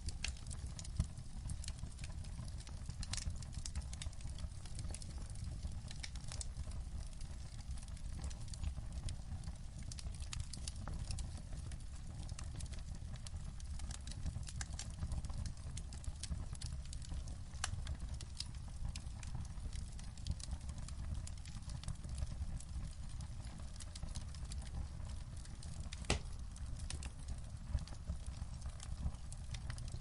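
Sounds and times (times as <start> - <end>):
low fire rumble: 0.0 - 30.0
wood fire crackling and popping: 0.0 - 30.0.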